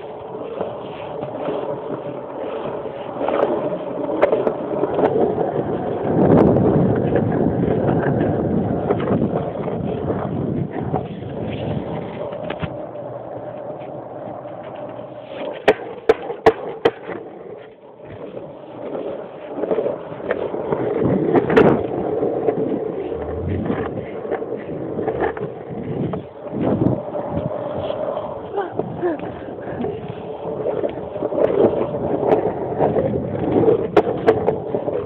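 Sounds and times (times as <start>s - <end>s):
longboard wheels rolling on pavement: 0.0s - 35.0s.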